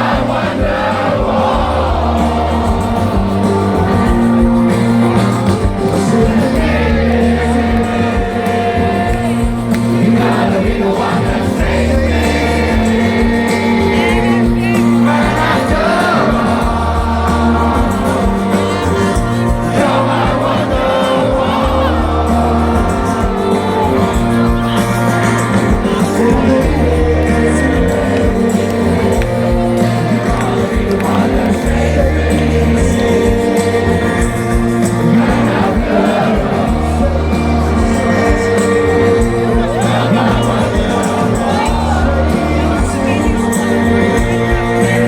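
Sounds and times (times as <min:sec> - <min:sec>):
crowd noise: 0:00.0 - 0:45.0
held bass line: 0:00.0 - 0:45.0
live rock band: 0:00.0 - 0:45.0.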